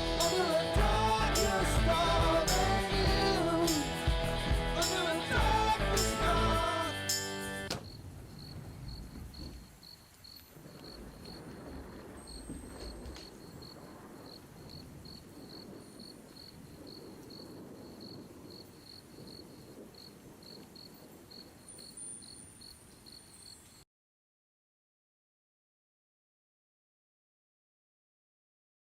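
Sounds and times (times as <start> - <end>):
cricket chirping: 0.0 - 23.8.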